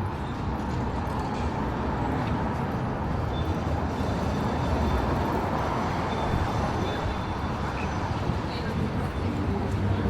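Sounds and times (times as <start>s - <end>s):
road traffic running past: 0.0s - 10.0s.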